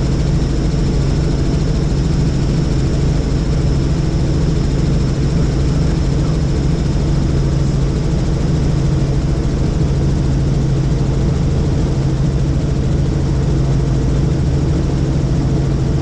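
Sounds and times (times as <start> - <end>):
helicopter in flight: 0.0 - 16.0.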